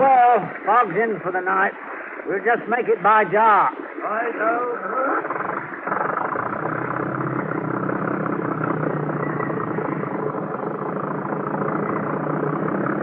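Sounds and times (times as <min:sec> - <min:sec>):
motor boat engine drone: 0:00.0 - 0:13.0.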